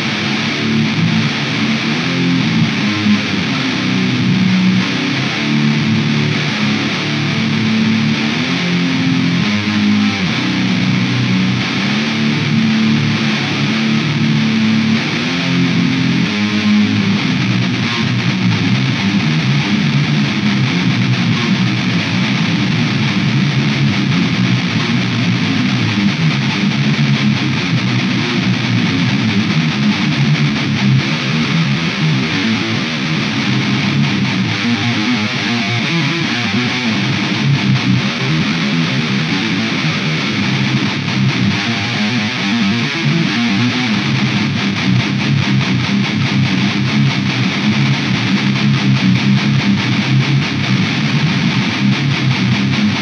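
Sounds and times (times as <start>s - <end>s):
distorted electric guitar riffs: 0.0s - 53.0s.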